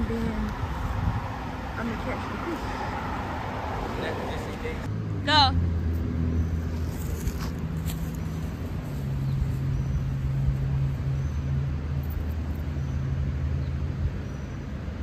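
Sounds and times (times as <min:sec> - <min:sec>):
low engine hum: 0:00.0 - 0:15.0
road traffic: 0:00.0 - 0:15.0.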